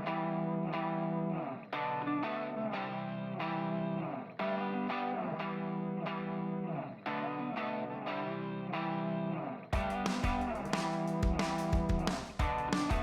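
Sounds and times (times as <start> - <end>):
electric guitar background music: 0.0 - 13.0.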